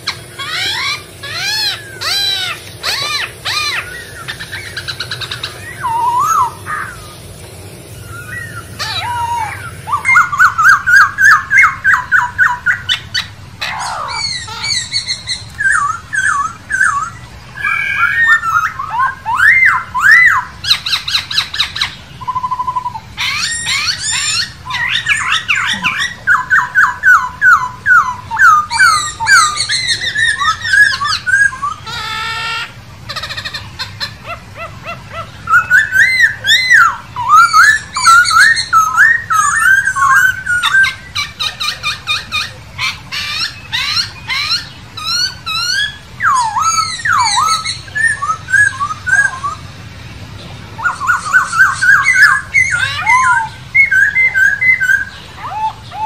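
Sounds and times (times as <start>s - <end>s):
bird singing whistled notes: 0.0s - 7.2s, 7.8s - 49.6s, 50.8s - 56.0s.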